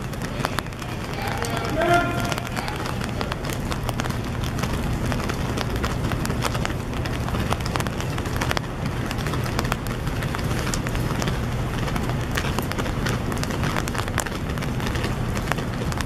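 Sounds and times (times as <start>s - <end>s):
rain drops tapping: 0.0s - 16.0s
steady low rain rumble: 0.0s - 16.0s.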